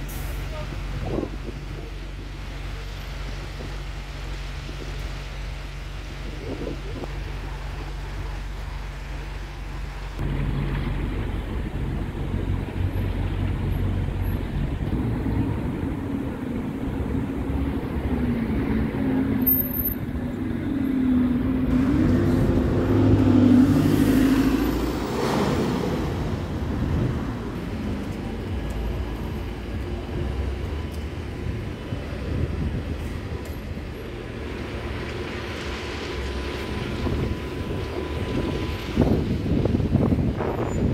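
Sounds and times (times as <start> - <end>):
bus engines running: 0.0 - 40.9
street traffic passing: 0.0 - 40.9
tyres on road: 0.0 - 40.9.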